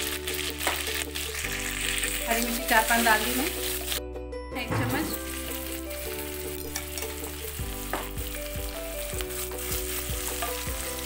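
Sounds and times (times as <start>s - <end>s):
oil sizzling: 0.0s - 4.0s, 4.6s - 11.0s.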